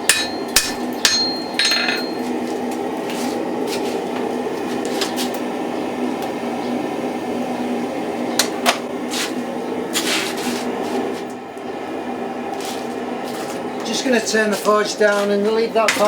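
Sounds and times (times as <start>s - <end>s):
forge burner roaring: 0.0s - 16.0s.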